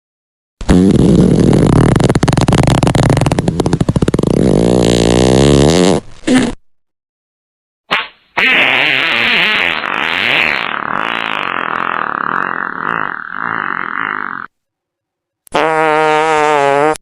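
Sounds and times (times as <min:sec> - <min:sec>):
fluttering fart: 0:00.6 - 0:06.6, 0:07.9 - 0:14.5, 0:15.5 - 0:17.0.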